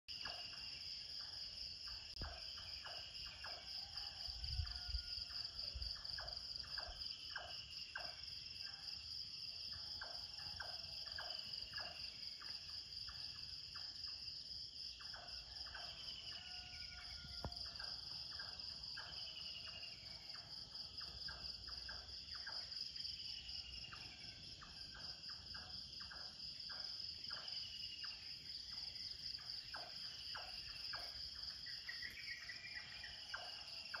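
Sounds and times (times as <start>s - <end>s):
pulsing insect trill: 0.1s - 34.0s.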